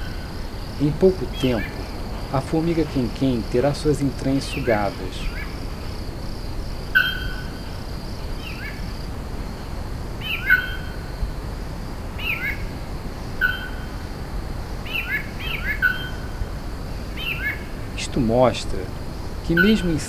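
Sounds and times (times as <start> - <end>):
birds chirping: 0.0 - 20.0
steady high hum: 0.0 - 20.0
steady low background rush: 0.0 - 20.0.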